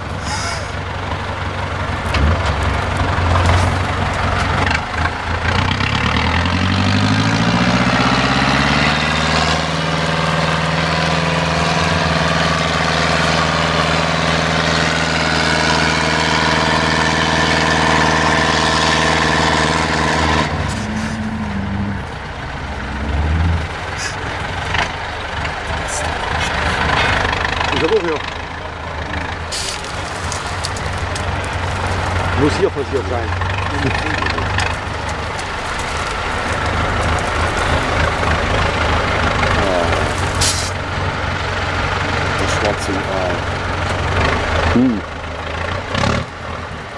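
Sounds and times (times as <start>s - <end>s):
truck diesel engine revving: 0.0s - 46.9s.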